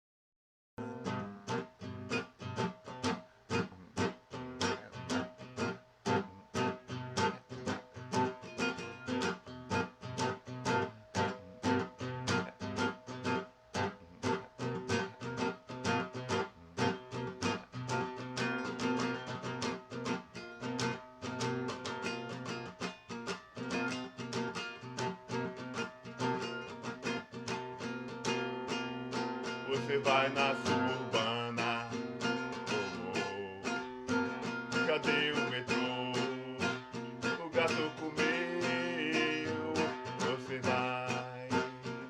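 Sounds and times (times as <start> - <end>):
acoustic guitar strumming chords: 0.8 - 42.0.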